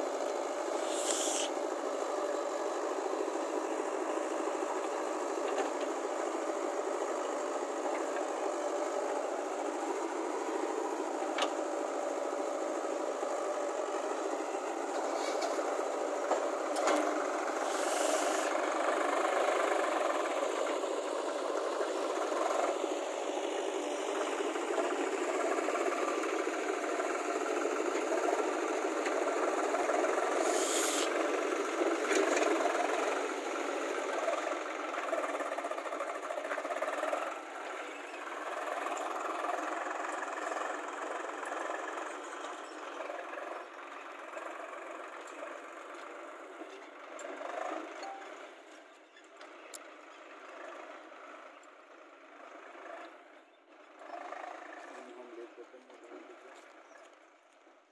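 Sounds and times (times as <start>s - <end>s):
diesel engines rattling: 0.0s - 57.8s.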